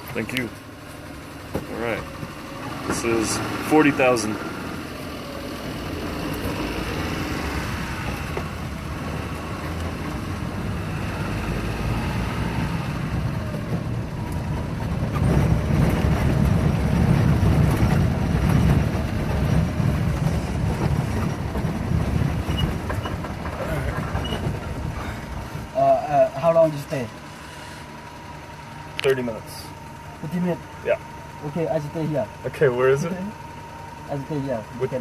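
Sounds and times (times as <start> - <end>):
engine and road rumble: 0.0 - 35.0.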